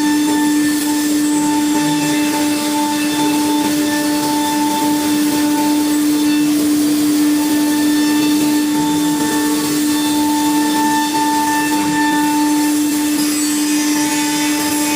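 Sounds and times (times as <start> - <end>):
router spindle whine: 0.0 - 14.9.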